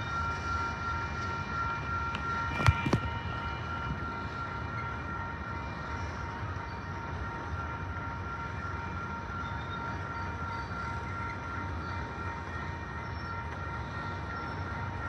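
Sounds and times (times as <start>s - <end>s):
continuous high tone: 0.0s - 15.0s
railroad cars rumbling past: 0.0s - 15.0s.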